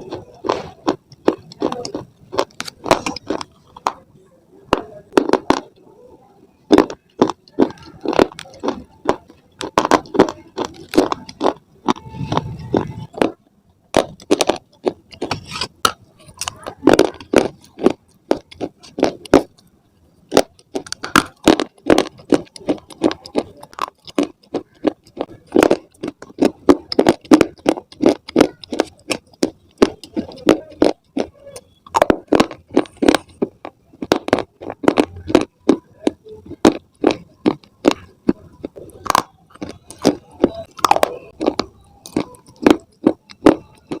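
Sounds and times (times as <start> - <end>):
stone crunching between teeth: 0.0 - 4.1, 4.7 - 5.8, 6.7 - 19.7, 20.3 - 44.0.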